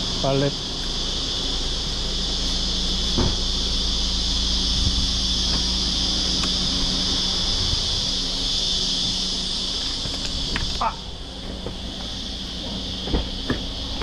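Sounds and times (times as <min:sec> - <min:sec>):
high-pitched insect drone: 0:00.0 - 0:14.0
low hum: 0:00.0 - 0:14.0.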